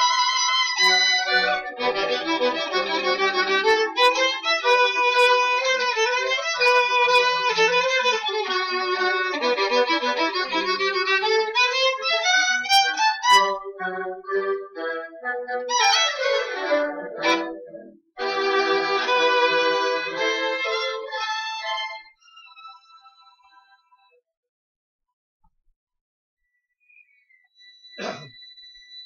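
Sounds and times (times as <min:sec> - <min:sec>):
lively violin playing: 0:00.0 - 0:23.8.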